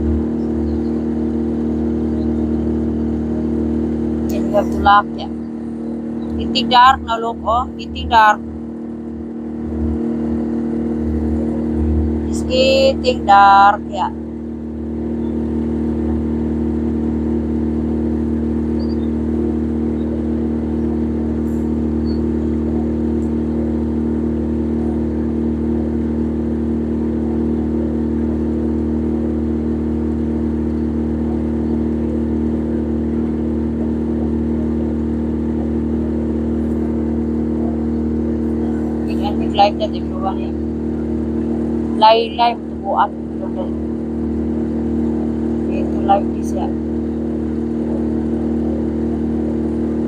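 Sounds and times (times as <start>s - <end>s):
motor humming steadily: 0.0s - 50.0s.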